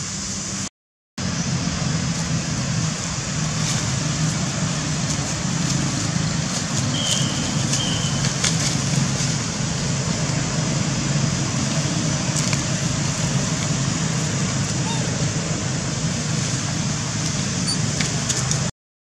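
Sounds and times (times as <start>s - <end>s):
constant hiss: 0.0s - 18.7s.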